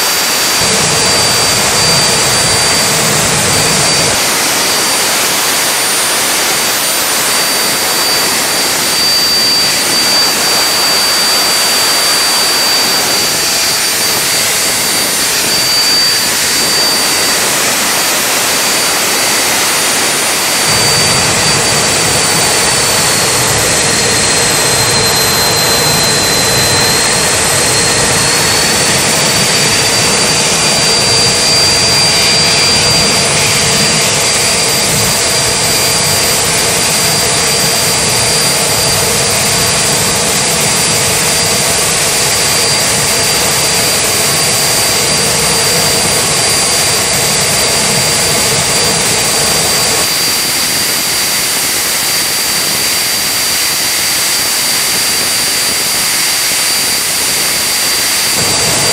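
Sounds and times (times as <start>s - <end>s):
jet engine roar with turbine whine: 0.0s - 58.9s.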